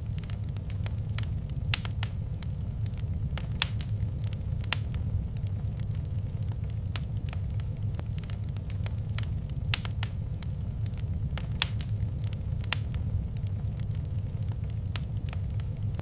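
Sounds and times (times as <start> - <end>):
fire snaps: 0.0 - 16.0
low steady rumble: 0.0 - 16.0
wood fire crackling: 0.0 - 16.0.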